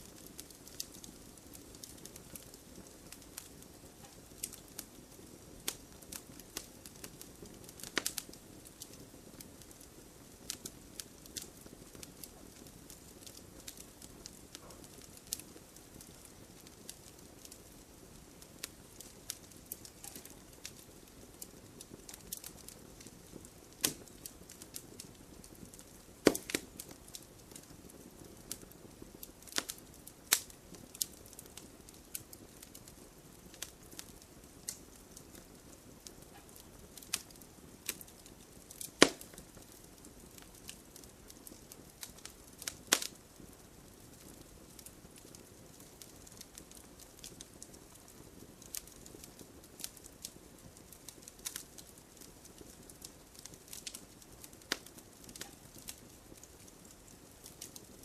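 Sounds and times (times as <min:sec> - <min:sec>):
campfire low rush: 0:00.0 - 0:58.0
campfire pops and snaps: 0:00.0 - 0:58.0.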